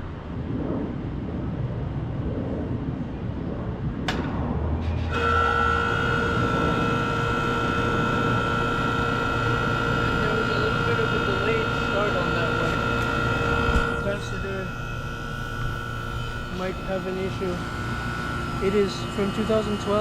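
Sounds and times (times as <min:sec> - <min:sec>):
air conditioner humming and whining: 0:00.0 - 0:20.0
background condensing units running: 0:00.0 - 0:20.0.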